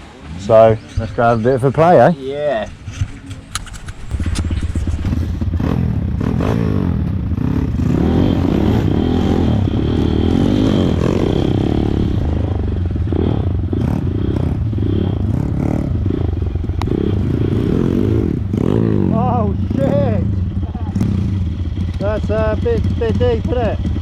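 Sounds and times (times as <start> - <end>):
small motorbike engine revving: 4.0 - 24.0.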